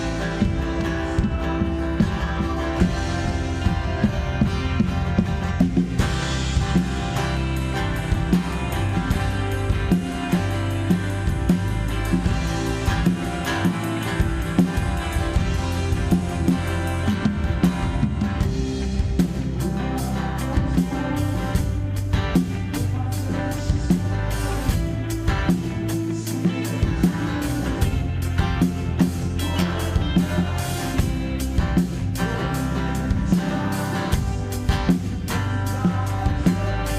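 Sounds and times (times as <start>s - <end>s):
band music with drums and guitar: 0.0s - 36.9s.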